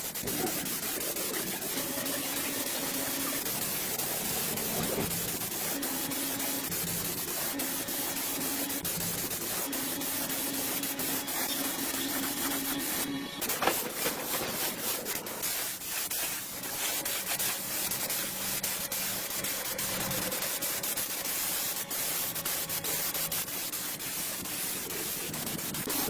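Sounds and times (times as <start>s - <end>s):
sandpaper rubbing by hand: 0.0s - 26.0s.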